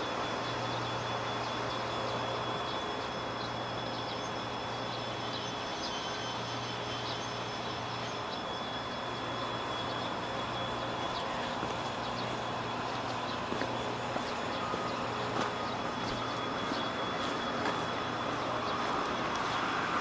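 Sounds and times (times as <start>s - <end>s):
steady high-pitched tone: 0.0s - 20.0s.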